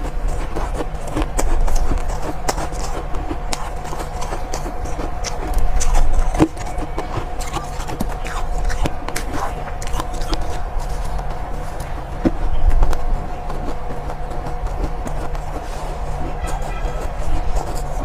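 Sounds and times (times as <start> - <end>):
ice being chewed: 0.0 - 18.0
steady background hum: 0.0 - 18.0.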